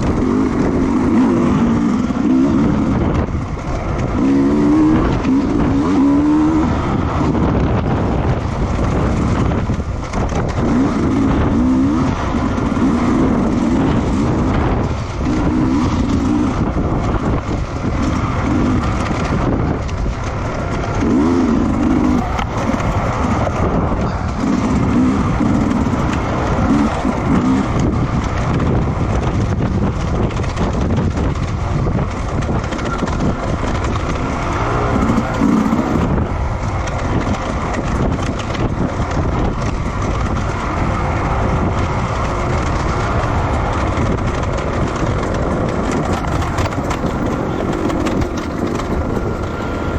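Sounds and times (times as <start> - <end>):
racing motorcycle engines: 0.0 - 49.9
steady rush of noise: 0.0 - 49.9.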